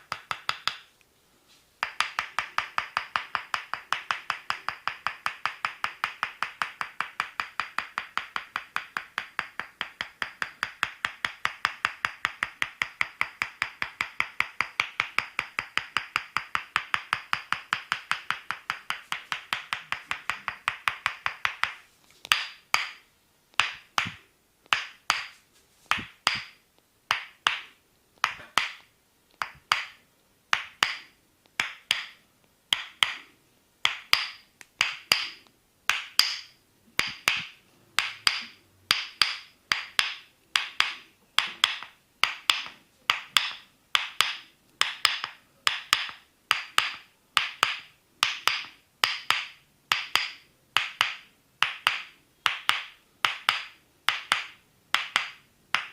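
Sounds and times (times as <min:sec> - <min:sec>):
wooden mallet tapping wooden wedge: 0:00.0 - 0:00.9, 0:01.8 - 0:23.0, 0:23.6 - 0:55.9.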